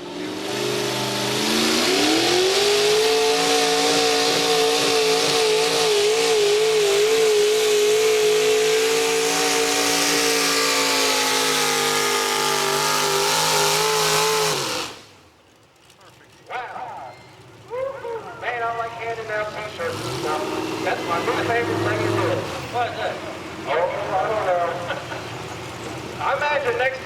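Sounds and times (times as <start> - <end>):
tractor engine at full throttle: 0.0 - 16.9, 18.0 - 27.0.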